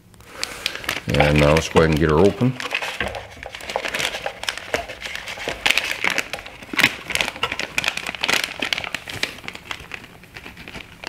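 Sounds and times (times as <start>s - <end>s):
plastic package crinkling: 0.0s - 11.0s.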